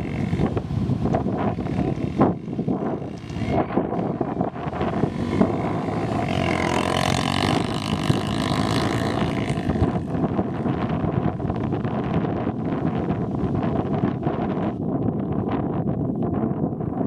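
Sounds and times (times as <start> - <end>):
motorcycle engine under throttle: 0.0 - 15.3.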